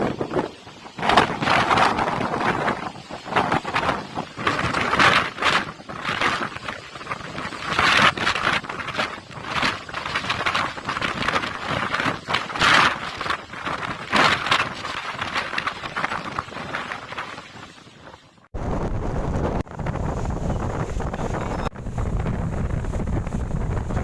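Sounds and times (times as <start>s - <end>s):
storm wind gusting: 0.0s - 24.0s
wind buffeting microphone: 0.0s - 24.0s.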